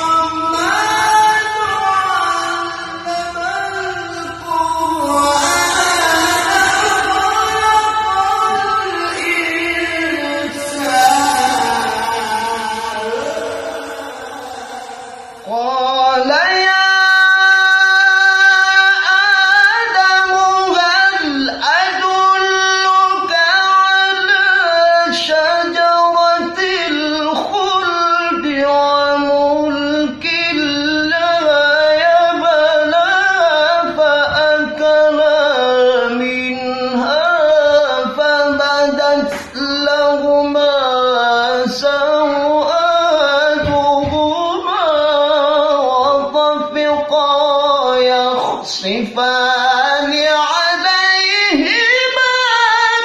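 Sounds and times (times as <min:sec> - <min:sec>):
man singing unaccompanied: 0:00.0 - 0:53.0.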